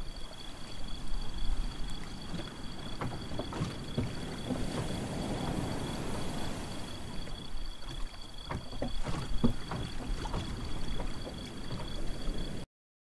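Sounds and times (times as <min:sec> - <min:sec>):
water lapping against boat: 0:00.0 - 0:12.6
knocks and splashes: 0:00.1 - 0:12.6.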